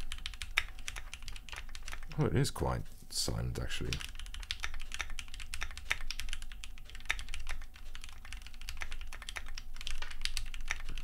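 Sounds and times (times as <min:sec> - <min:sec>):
fast typing on mechanical keyboard: 0:00.0 - 0:02.2, 0:03.6 - 0:11.0.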